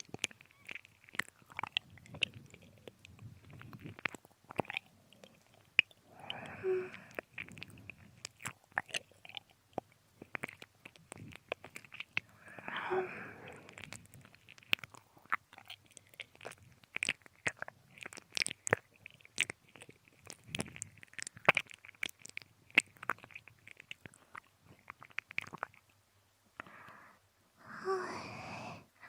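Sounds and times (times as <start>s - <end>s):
wet mouth clicks and slurps: 0.0s - 26.0s.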